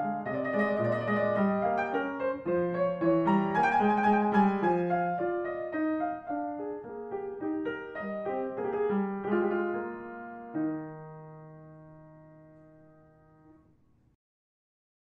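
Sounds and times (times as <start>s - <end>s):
calm piano melody: 0.0s - 13.8s.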